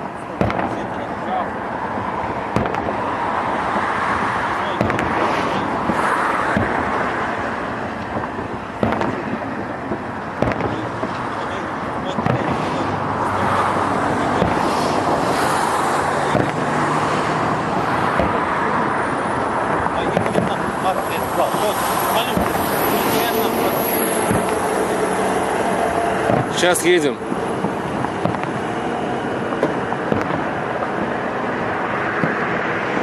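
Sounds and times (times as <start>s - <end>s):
firework shells bursting: 0.0s - 33.0s
fireworks crackling rumble: 0.0s - 33.0s.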